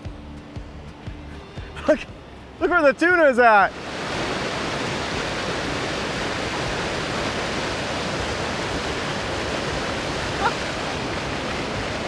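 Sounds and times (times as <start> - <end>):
river water rushing: 1.4 - 12.0.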